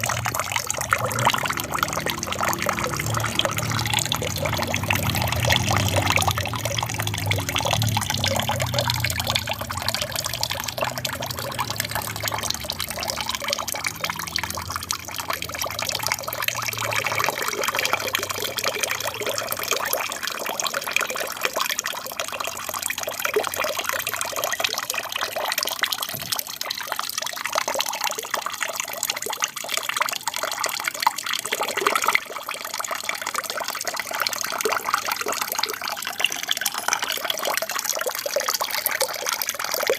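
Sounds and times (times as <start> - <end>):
water splashing into tank: 0.0 - 39.9.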